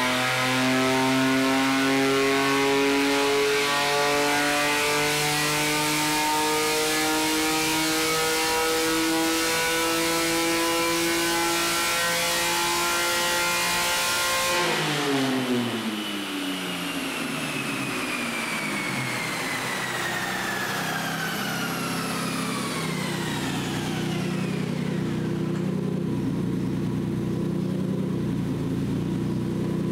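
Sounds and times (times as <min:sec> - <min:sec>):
car engine revving: 0:00.0 - 0:29.9
high whine of dyno rollers: 0:00.0 - 0:29.9.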